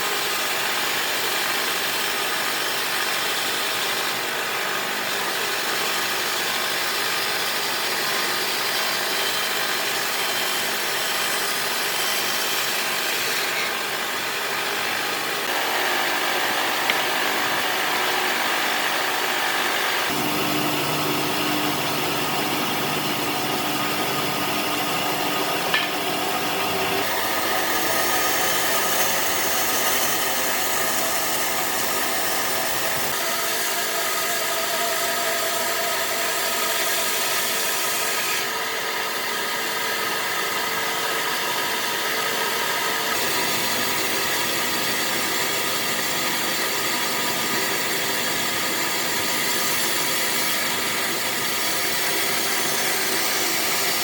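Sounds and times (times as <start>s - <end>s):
power tools cutting wood: 0.0s - 54.0s.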